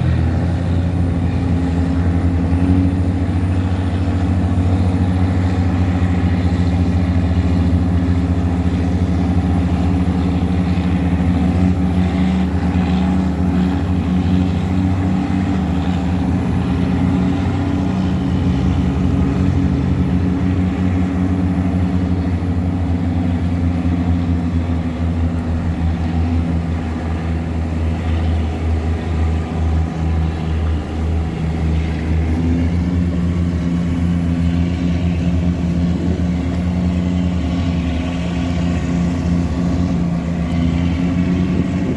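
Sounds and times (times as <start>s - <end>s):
diesel engine under heavy load: 0.0s - 41.9s.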